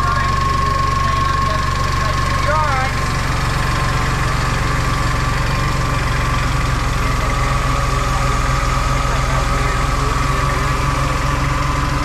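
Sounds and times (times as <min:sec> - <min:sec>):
machine engine idling: 0:00.0 - 0:12.0
steady high tone: 0:00.0 - 0:12.0.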